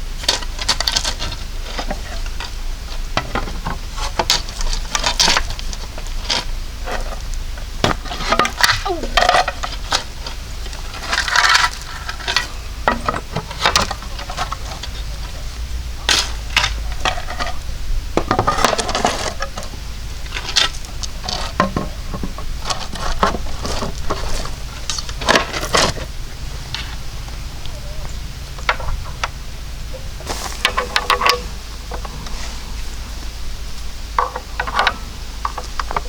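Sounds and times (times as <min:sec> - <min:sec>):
scraping and rustling: 0:00.0 - 0:36.0.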